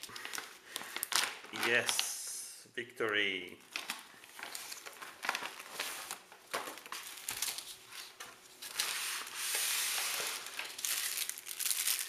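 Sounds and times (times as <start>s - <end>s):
plastic packaging crinkling: 0.0s - 2.2s, 3.6s - 12.0s.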